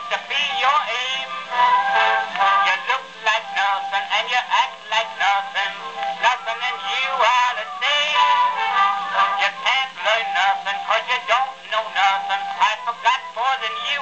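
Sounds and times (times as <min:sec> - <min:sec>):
man singing on old recording: 0:00.0 - 0:14.0.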